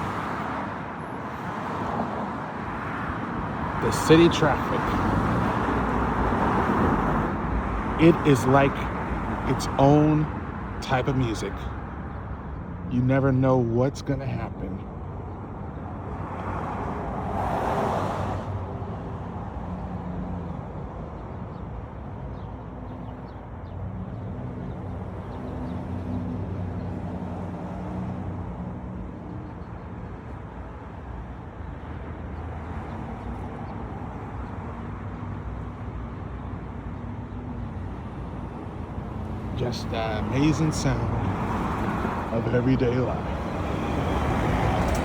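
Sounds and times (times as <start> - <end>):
traffic hum: 0.0 - 45.0.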